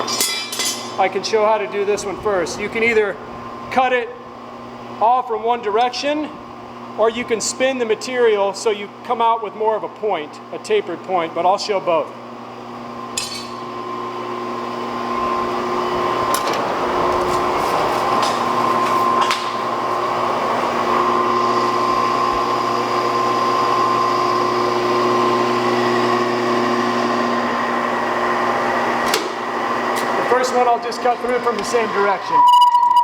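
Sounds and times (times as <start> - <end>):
electric motor hum: 0.7 - 32.5.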